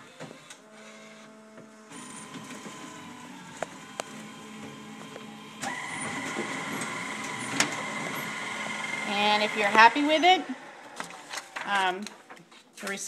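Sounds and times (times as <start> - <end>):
duplicator machine hum: 0.0 - 11.6
machine whine: 0.4 - 11.6.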